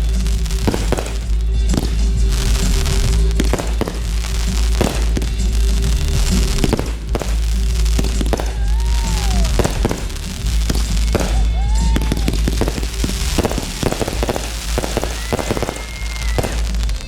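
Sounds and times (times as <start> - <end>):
fireworks bangs and crackles: 0.0 - 17.0
fireworks whistling: 0.0 - 17.0
music: 0.0 - 17.0.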